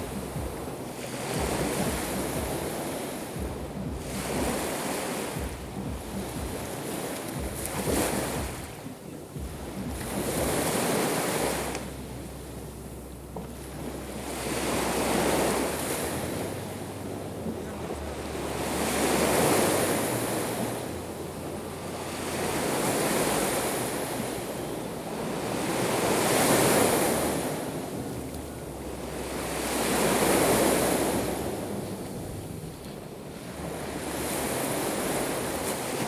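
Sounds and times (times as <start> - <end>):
sea waves breaking on shore: 0.0 - 36.0.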